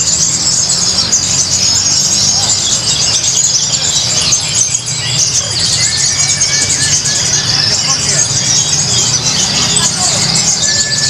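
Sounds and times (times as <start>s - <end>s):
sunbirds chirping and trilling: 0.0s - 11.0s.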